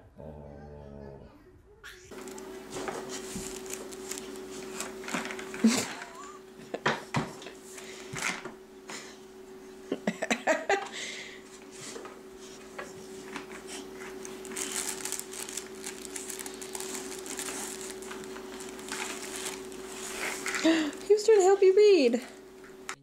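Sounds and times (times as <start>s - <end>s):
steady hum: 2.0s - 23.0s.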